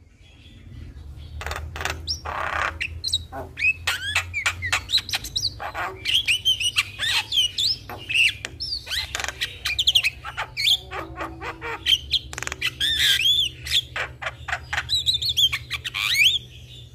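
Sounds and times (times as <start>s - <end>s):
myna bird singing: 0.0s - 16.9s.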